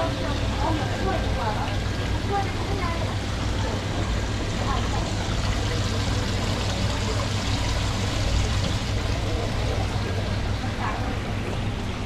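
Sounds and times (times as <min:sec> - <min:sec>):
water running and bubbling in tank: 0:00.0 - 0:12.0.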